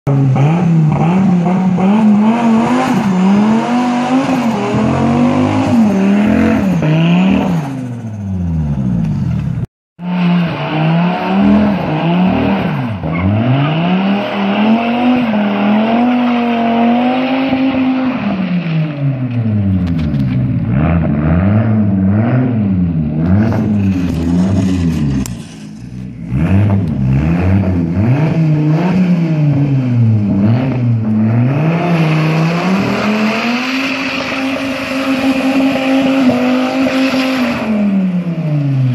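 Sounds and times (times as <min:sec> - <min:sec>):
car engine revving hard: 0:00.1 - 0:08.9, 0:10.0 - 0:19.3, 0:20.6 - 0:38.9.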